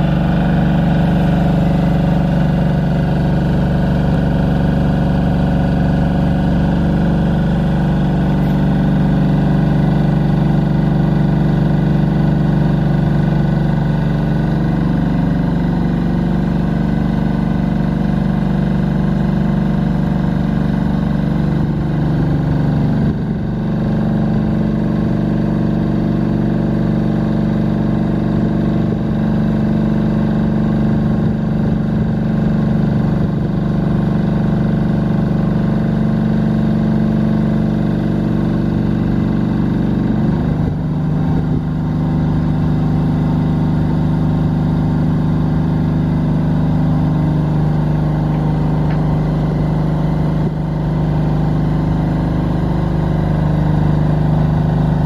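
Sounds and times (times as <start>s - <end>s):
diesel generator running: 0.0s - 55.0s.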